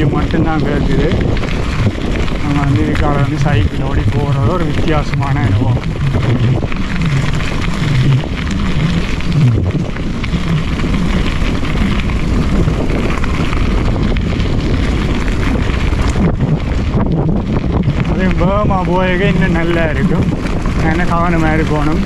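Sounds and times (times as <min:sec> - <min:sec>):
bike tyres rolling on dirt: 0:00.0 - 0:22.0
wind on microphone: 0:00.0 - 0:22.0.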